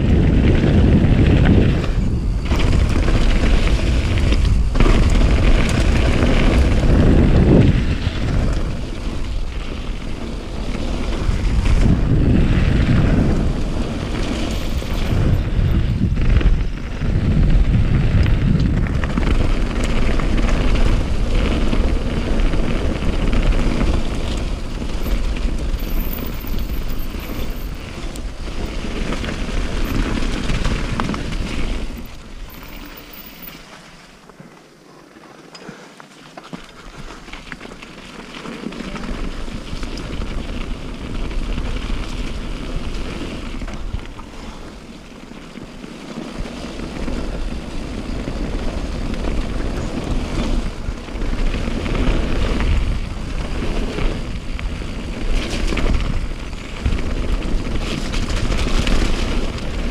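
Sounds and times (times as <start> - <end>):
wind buffeting microphone: 0.0 - 33.4, 38.7 - 59.9.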